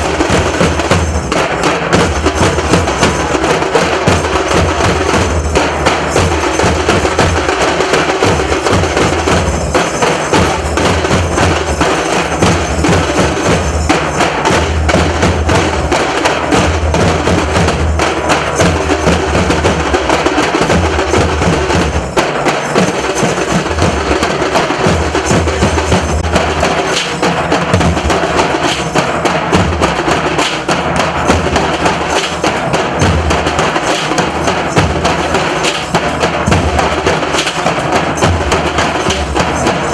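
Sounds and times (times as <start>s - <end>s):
dhol drumming: 0.0s - 39.9s.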